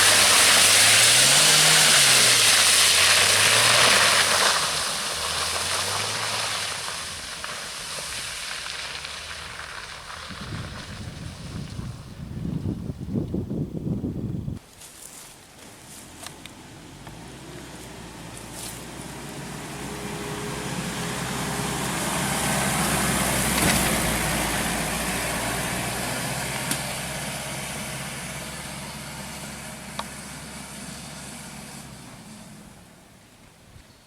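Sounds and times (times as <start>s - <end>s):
car engine and tyres passing: 0.0s - 12.7s, 15.7s - 33.6s.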